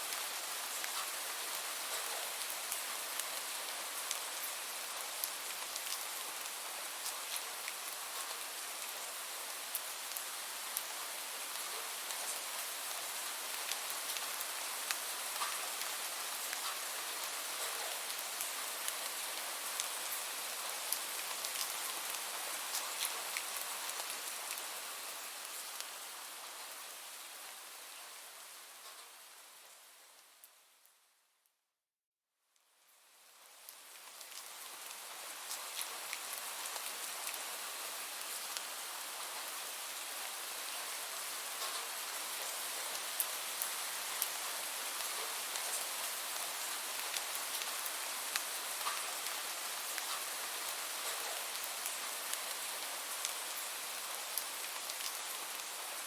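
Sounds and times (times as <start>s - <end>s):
steady rain hissing: 0.0s - 31.3s, 32.6s - 56.0s.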